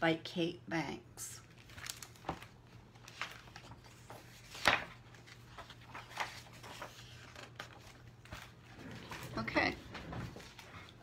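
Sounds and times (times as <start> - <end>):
faint electrical hum: 0.0 - 11.0
picture book rustling: 1.4 - 11.0.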